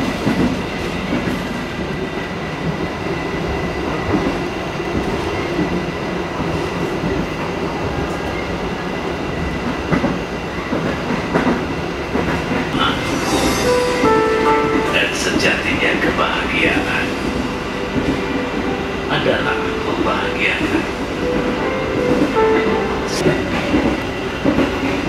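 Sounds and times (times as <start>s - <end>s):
train rolling rumble: 0.0s - 25.0s.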